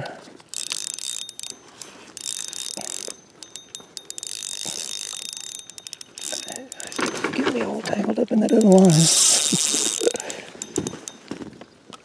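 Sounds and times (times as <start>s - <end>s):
fishing reel gears whirring: 0.5s - 11.2s.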